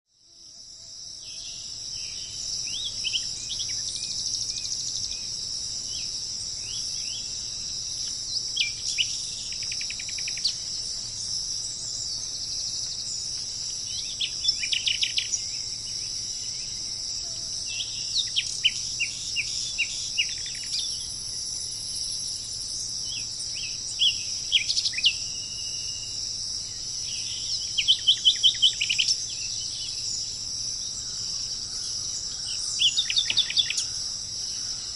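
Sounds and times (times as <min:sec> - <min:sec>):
insect chorus: 0:00.1 - 0:34.9
songbirds chirping: 0:00.4 - 0:34.9.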